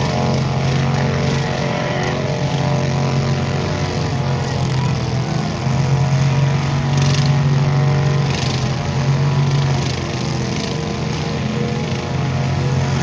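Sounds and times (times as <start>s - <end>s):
tractor engine at high revs: 0.0s - 13.0s.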